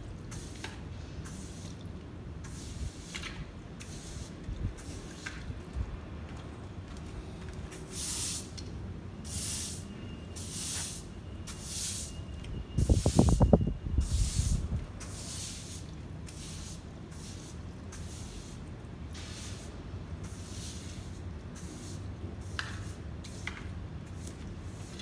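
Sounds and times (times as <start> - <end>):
broom sweeping grit on concrete: 0.2 - 5.5, 7.7 - 25.0.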